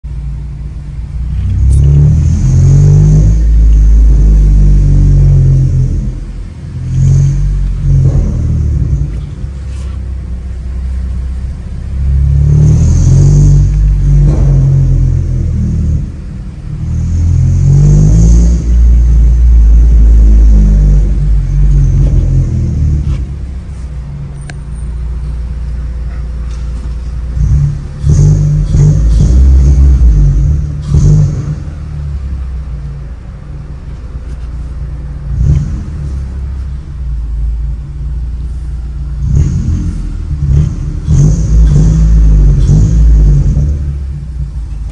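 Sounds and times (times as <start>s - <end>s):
car engine revving: 0.1s - 44.9s.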